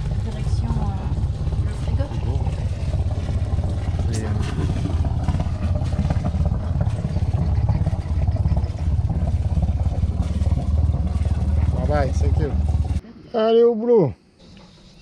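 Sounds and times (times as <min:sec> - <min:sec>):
boat engine chugging: 0:00.0 - 0:13.0.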